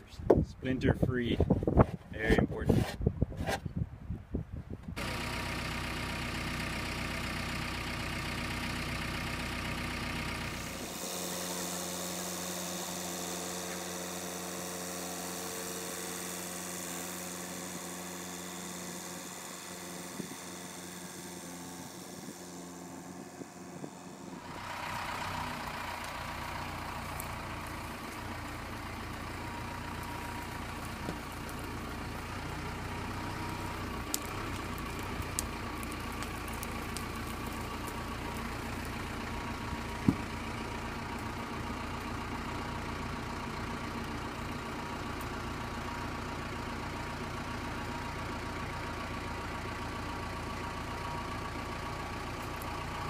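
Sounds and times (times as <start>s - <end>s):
backhoe diesel engine running: 4.9s - 53.0s.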